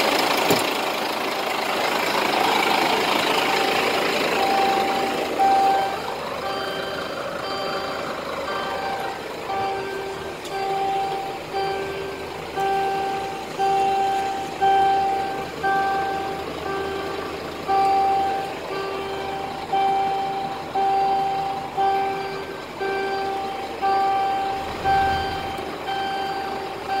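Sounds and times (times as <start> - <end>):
truck warning beeps: 2.1 - 27.0.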